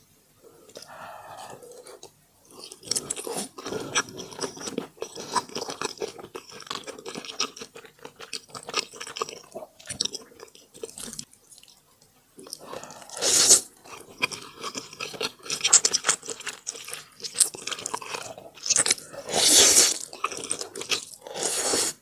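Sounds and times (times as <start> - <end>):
crunchy food chewing: 0.7 - 21.9.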